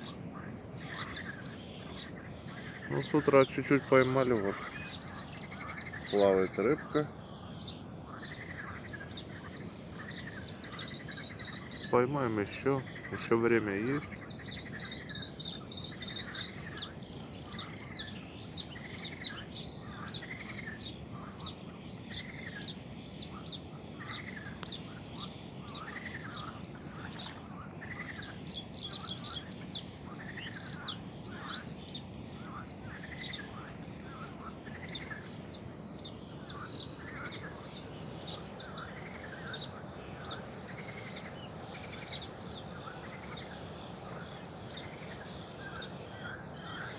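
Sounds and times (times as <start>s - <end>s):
birds chirping: 0.0s - 46.9s
steady low hiss: 0.0s - 46.9s.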